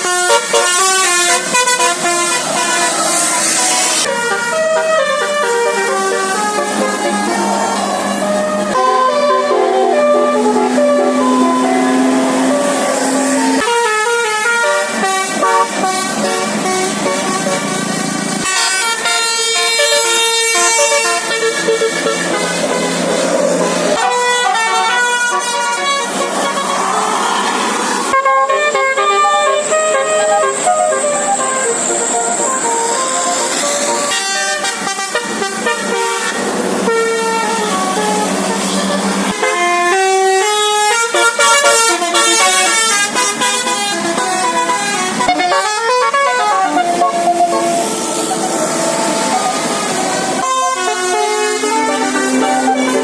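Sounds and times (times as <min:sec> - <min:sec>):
bus multi-tone horn tune: 0:00.0 - 0:53.0
road and engine noise: 0:00.0 - 0:53.0.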